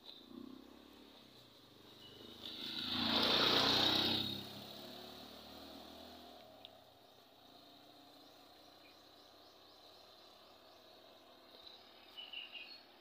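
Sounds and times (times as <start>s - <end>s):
motorcycle passing by: 0.1s - 13.0s.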